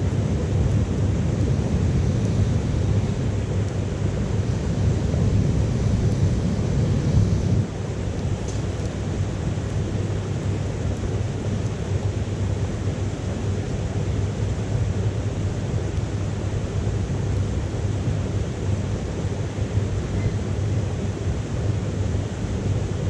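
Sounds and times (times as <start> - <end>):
wood fire crackling: 0.0 - 20.1
low fire rumble: 0.0 - 23.0.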